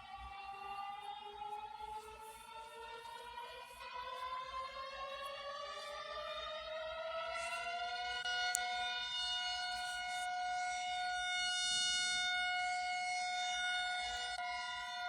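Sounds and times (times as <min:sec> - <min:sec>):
reversed siren steady tone: 0:00.0 - 0:15.0.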